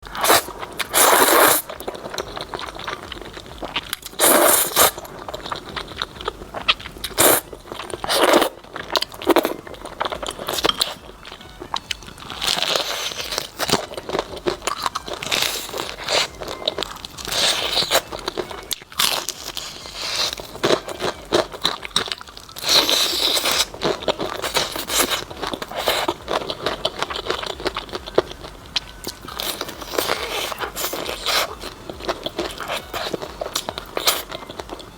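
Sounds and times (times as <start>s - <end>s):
fried chicken crunching: 0.0s - 34.9s
person chewing: 0.0s - 34.9s.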